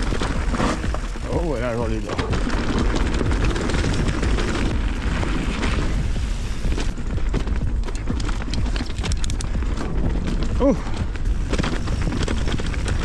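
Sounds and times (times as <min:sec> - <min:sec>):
hissing road noise: 0:00.0 - 0:13.0
wind rumbling on microphone: 0:00.0 - 0:13.0.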